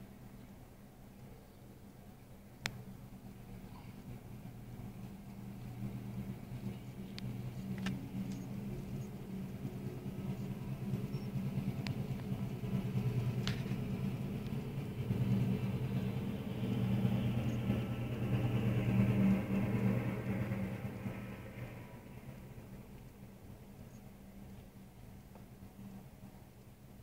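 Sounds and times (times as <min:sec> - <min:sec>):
diesel locomotive engine hum: 0:00.0 - 0:27.0.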